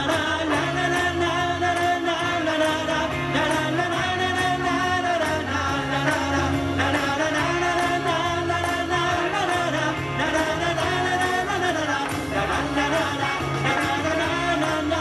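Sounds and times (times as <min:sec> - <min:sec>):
live band playing pop song: 0:00.0 - 0:15.0.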